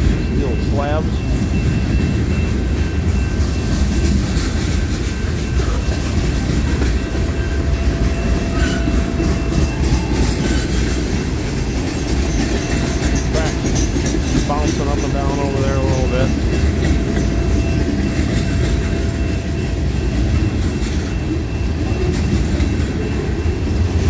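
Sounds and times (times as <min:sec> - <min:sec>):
train wheels rumbling and clacking: 0:00.0 - 0:24.0.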